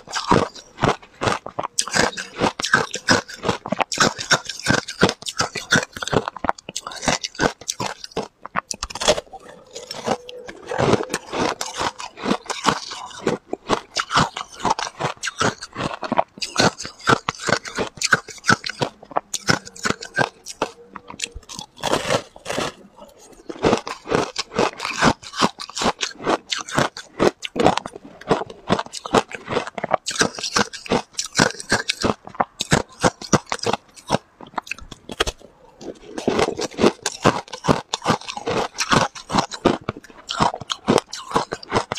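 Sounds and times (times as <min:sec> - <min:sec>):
person crunching ice: 0:00.0 - 0:41.9.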